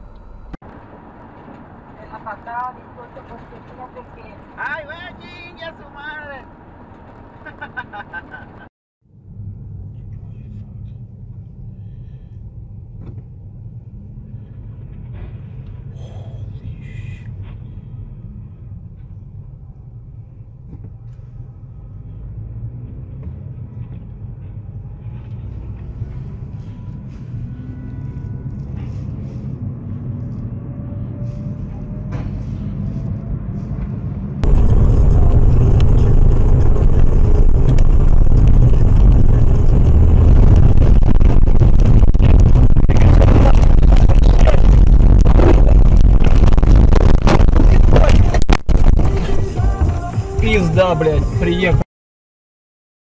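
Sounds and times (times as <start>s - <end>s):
road noise inside car: 0.0s - 51.8s.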